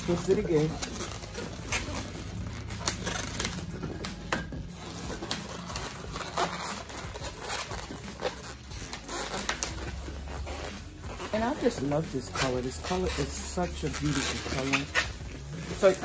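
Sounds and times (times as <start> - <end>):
balloons squeaking and creaking: 0.0 - 16.0.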